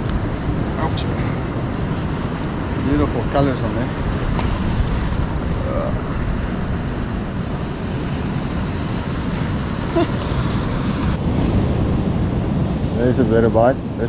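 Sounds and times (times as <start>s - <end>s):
sea waves washing: 0.0s - 14.0s
wind rumble on microphone: 0.0s - 14.0s.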